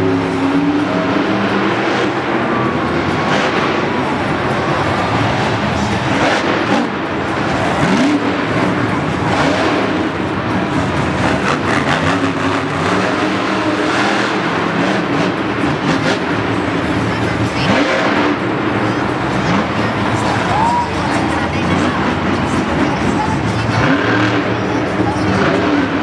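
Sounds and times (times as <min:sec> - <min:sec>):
monster truck engines revving: 0:00.0 - 0:26.0.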